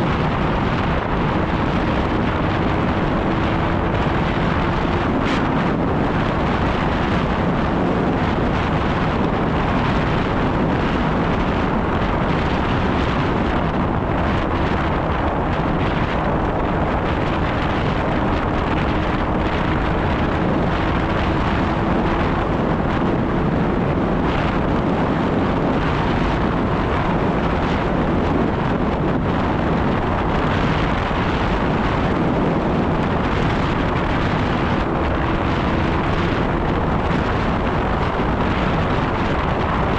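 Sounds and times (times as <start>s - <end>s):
snowmobile engine running: 0.0s - 39.9s
wind on microphone: 0.0s - 39.9s.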